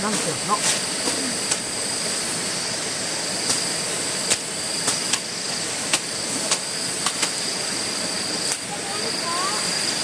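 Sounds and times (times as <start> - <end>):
insect drone: 0.0 - 10.0
outdoor hiss: 0.0 - 10.0.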